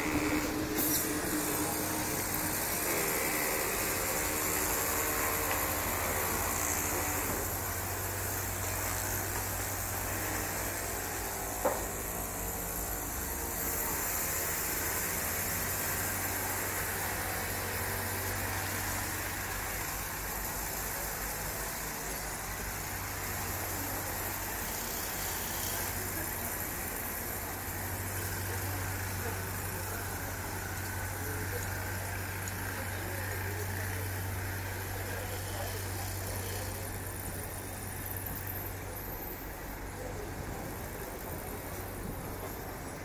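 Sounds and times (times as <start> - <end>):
electric train humming: 0.0 - 43.0.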